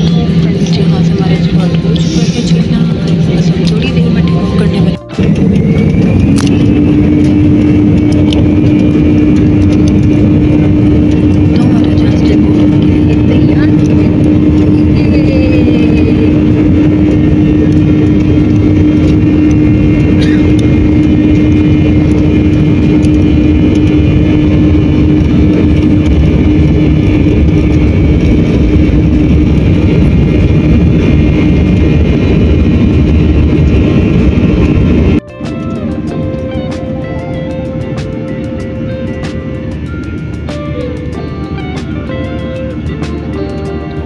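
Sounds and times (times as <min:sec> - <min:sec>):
jet engines rushing: 0:00.0 - 0:44.0
steady hum: 0:00.0 - 0:44.0.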